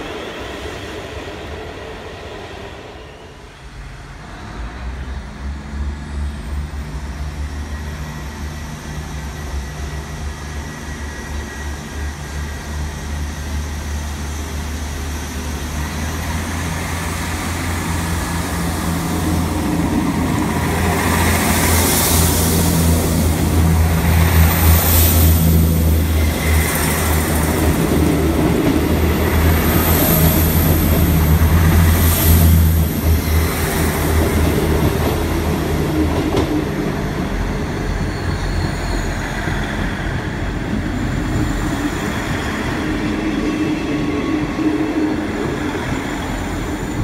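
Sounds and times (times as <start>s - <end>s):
train departing: 0.0s - 47.0s
train passing close by: 0.0s - 47.0s.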